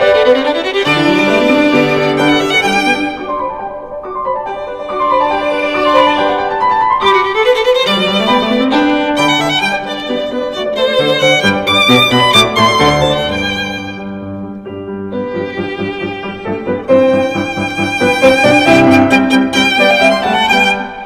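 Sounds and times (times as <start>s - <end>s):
violin melody with vibrato: 0.0s - 21.0s.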